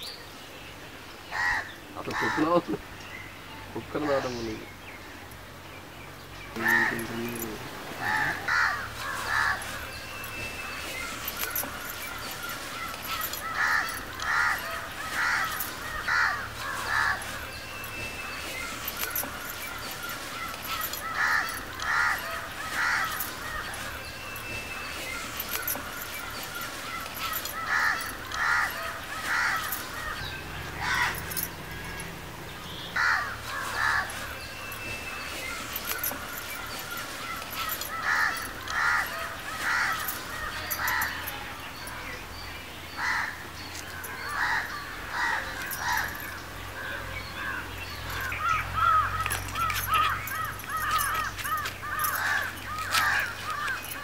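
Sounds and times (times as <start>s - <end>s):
bird calls: 0.0s - 54.0s.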